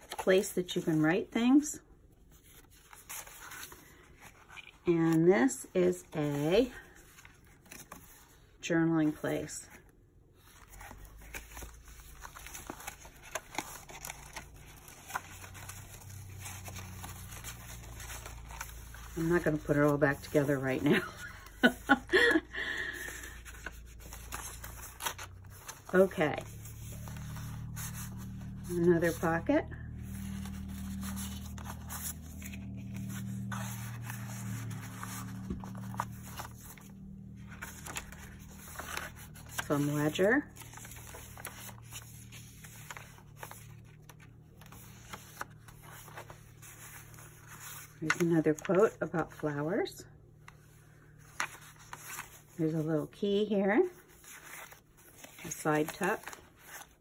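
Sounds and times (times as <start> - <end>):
paper pages rustling: 0.0 - 1.2, 2.2 - 5.2, 5.8 - 8.5, 10.4 - 49.5, 50.4 - 52.9, 53.9 - 57.0.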